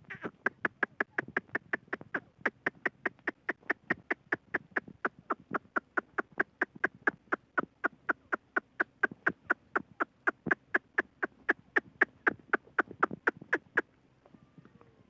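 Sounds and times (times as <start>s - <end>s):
francolin calling: 0.0s - 14.7s.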